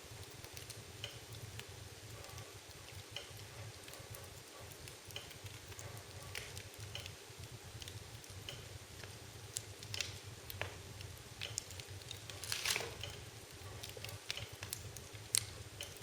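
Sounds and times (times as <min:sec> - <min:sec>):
wood fire crackling: 0:00.0 - 0:16.0
sharp pops from fire: 0:00.3 - 0:13.2.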